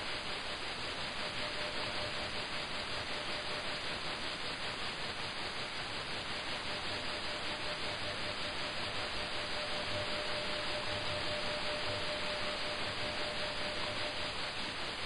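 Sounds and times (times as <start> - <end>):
faint steady tone: 0.0 - 15.0
radio band noise hiss: 0.0 - 15.0.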